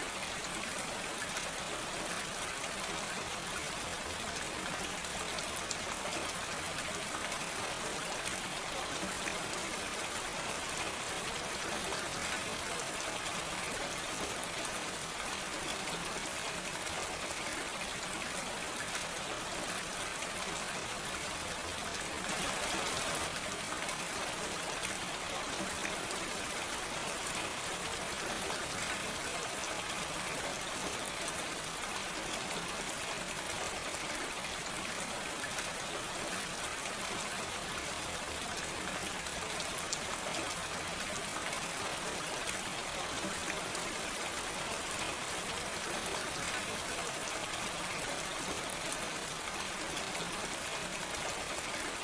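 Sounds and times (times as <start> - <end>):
gentle rain pattering: 0.0 - 52.0.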